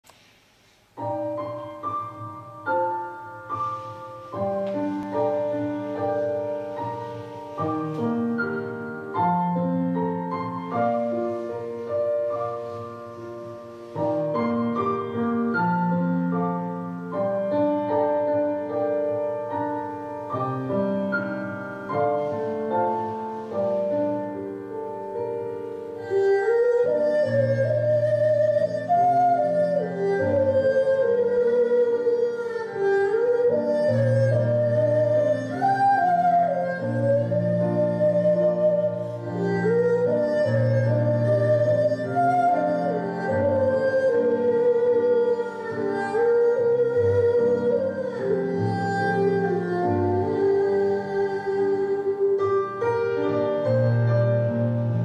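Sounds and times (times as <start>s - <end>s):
slow piano music: 0.1s - 55.0s.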